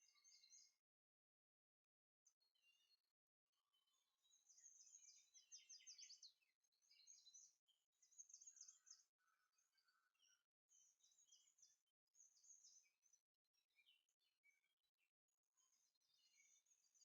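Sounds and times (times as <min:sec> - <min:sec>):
faint birdsong chirps and trills: 0:00.0 - 0:17.0.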